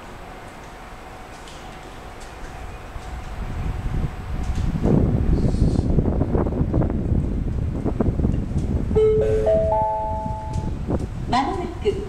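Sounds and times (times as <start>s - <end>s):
passing train rumble: 0.0s - 12.0s.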